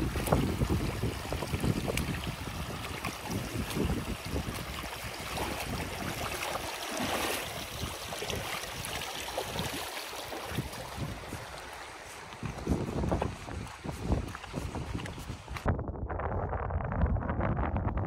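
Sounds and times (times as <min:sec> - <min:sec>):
boots splashing through stream: 0:00.0 - 0:15.7
flowing water rushing: 0:00.0 - 0:15.7
wind buffeting microphone: 0:00.0 - 0:18.0.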